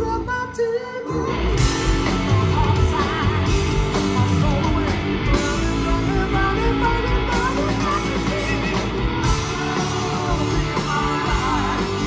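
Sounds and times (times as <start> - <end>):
rock band playing: 0.0 - 12.0
drums and cymbals: 1.3 - 12.0.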